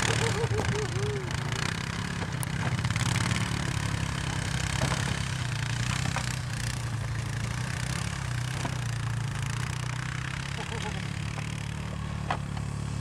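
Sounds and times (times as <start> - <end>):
atv engine running: 0.0 - 13.0
rattling road noise: 0.0 - 13.0.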